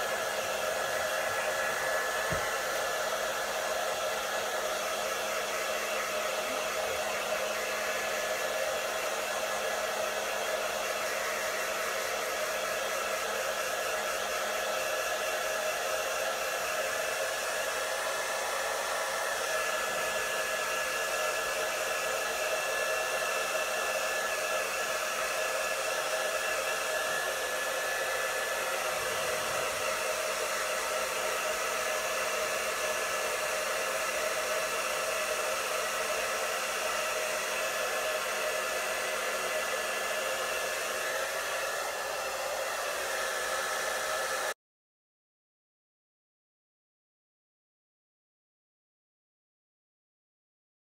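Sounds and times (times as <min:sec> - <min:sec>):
hair dryer blowing: 0:00.0 - 0:44.6.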